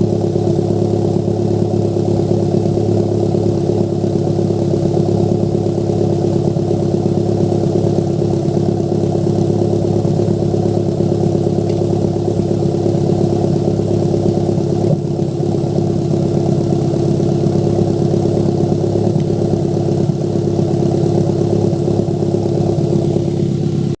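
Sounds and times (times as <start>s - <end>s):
car engine idling with popping exhaust: 0.0s - 24.0s.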